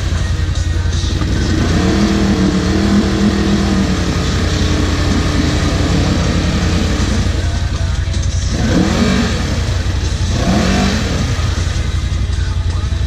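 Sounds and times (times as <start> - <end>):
utv engine revving: 0.0 - 13.0.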